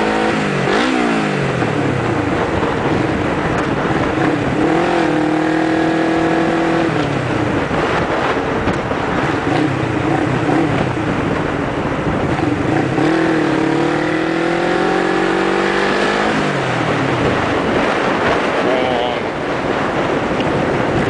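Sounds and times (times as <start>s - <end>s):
motorcycle engine revving: 0.0s - 21.0s
wind rush: 0.0s - 21.0s.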